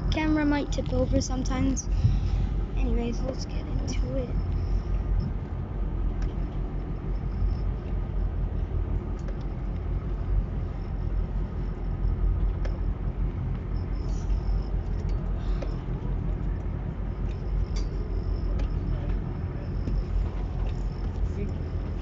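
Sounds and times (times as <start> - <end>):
boat engine low rumble: 0.0 - 22.0.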